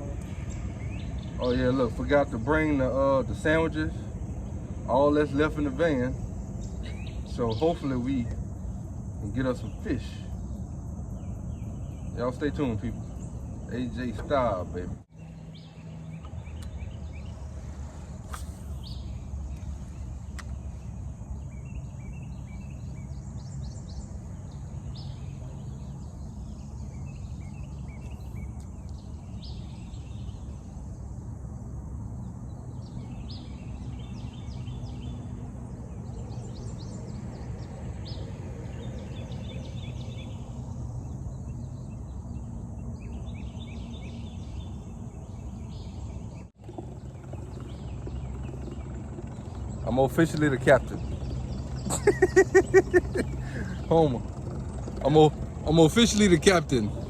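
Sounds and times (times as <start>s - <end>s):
birds singing: 0.0s - 57.0s
steady low rumble: 0.0s - 57.0s.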